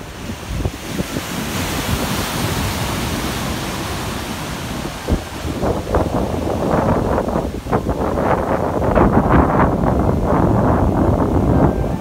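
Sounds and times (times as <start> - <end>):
wave breaking into whitewater: 0.0 - 12.0
wind buffeting microphone: 0.0 - 12.0.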